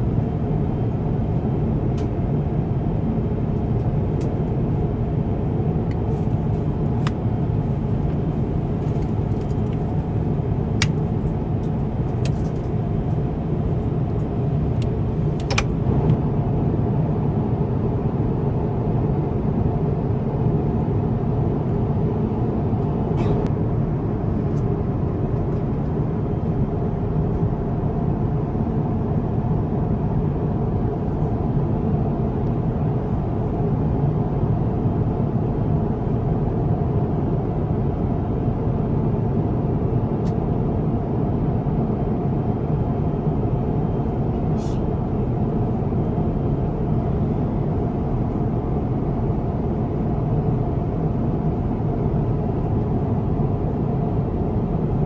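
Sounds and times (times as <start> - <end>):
airliner cabin air and engine noise: 0.0 - 55.0.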